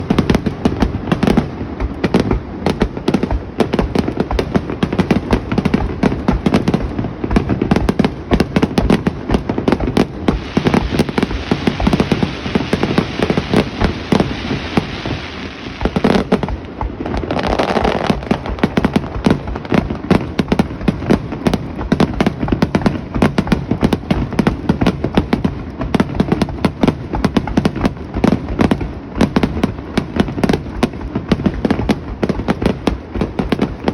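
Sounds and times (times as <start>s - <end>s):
fireworks bangs: 0.0s - 33.9s
hissing crackle of fireworks: 0.0s - 33.9s.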